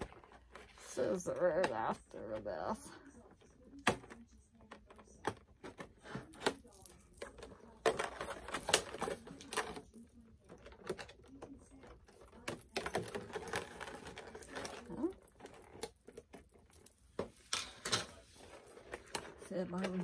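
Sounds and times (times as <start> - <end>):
plastic and cardboard crinkles: 3.1 - 20.0.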